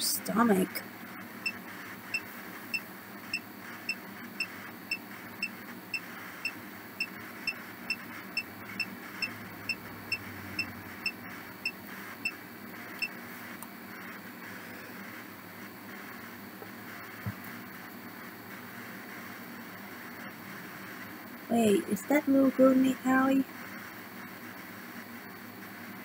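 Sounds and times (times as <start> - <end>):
constant hiss: 0.0 - 26.0.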